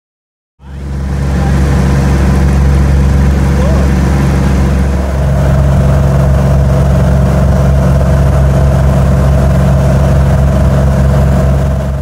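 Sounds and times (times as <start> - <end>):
propeller plane engine running: 0.6 - 12.0.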